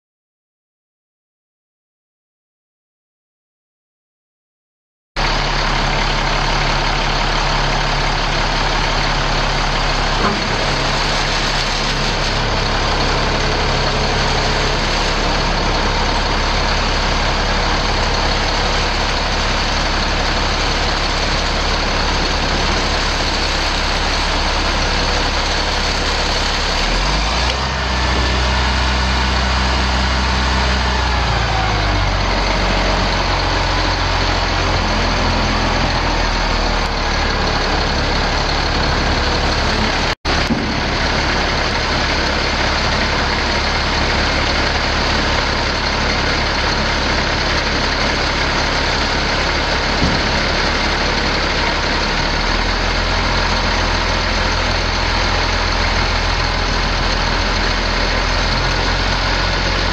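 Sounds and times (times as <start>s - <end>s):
diesel engine idling: 5.2s - 59.9s.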